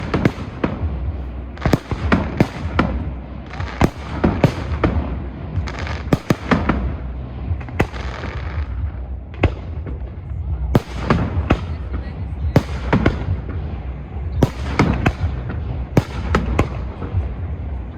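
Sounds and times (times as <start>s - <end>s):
firework bangs: 0.0s - 17.6s
fireworks crackle and rumble: 0.0s - 17.9s.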